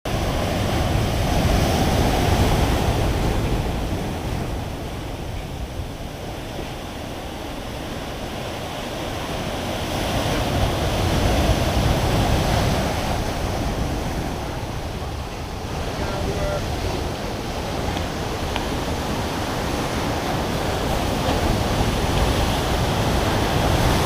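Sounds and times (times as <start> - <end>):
surf breaking on shore: 0.1 - 24.0
wind on microphone: 0.1 - 24.0.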